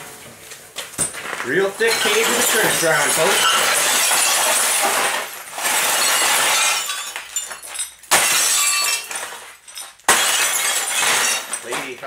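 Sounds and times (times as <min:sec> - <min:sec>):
glass crashing and tinkling: 0:01.0 - 0:12.0
glass shattering: 0:01.0 - 0:12.0.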